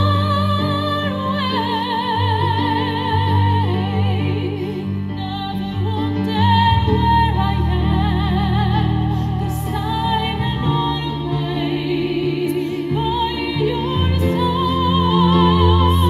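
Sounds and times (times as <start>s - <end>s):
operatic soprano singing: 0.0s - 16.0s.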